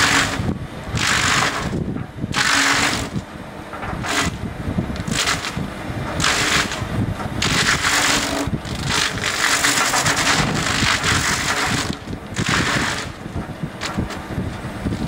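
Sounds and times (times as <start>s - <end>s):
machinery engine rumble: 0.0s - 15.0s
milling shaft chipping wood: 0.0s - 15.0s.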